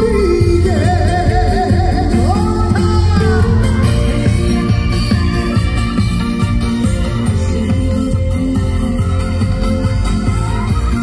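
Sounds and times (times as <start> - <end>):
live upbeat instrumental music: 0.0 - 11.0.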